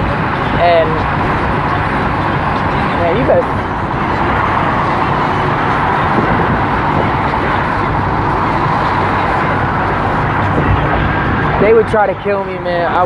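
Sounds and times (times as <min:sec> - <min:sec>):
vehicle engine and road hum: 0:00.0 - 0:13.0.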